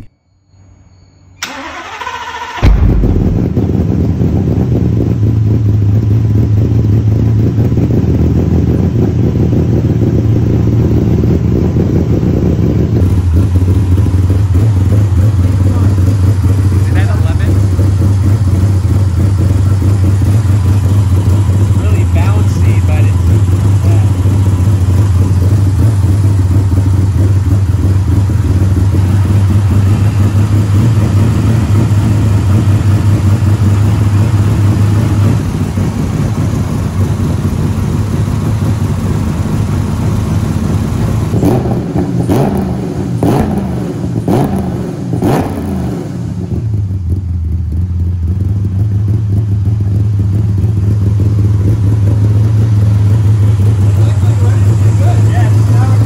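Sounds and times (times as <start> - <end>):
engine idling and revving: 1.4 - 56.0.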